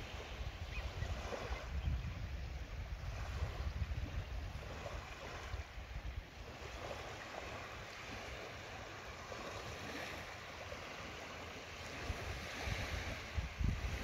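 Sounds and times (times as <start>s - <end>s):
small waves lapping on beach: 0.0s - 14.0s
wind on microphone: 0.0s - 14.0s.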